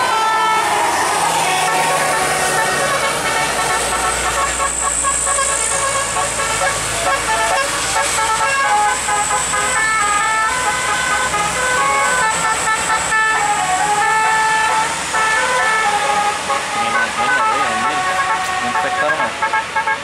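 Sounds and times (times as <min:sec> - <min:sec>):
heavy vehicles rumbling past: 0:00.0 - 0:20.0
multi-tone bus air horn melody: 0:00.0 - 0:20.0.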